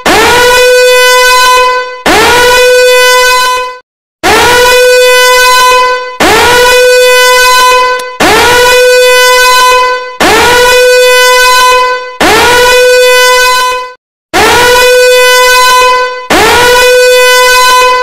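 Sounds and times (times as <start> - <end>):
alarm horn blasts: 0.0 - 18.0.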